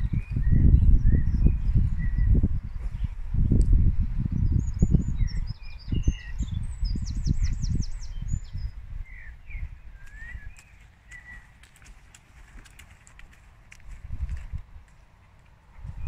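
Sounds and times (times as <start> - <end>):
small birds singing: 0.0 - 13.9.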